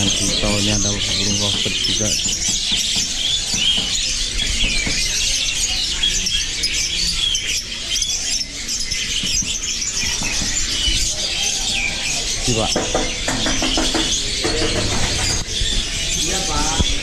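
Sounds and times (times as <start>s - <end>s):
songbirds chirping and whistling: 0.0s - 17.0s.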